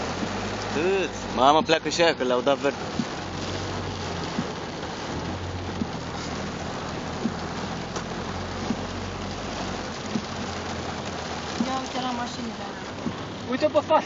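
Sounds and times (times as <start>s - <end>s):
car engine humming: 0.0s - 14.0s
rain on car roof: 0.0s - 14.0s.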